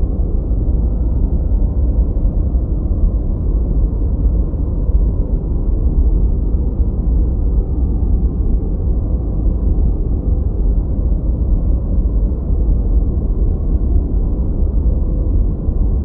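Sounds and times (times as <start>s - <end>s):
deep white noise: 0.0s - 16.0s.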